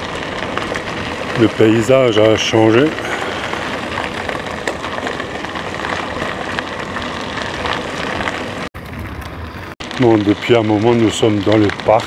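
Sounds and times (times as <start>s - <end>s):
bike tyres rolling: 0.0s - 12.0s.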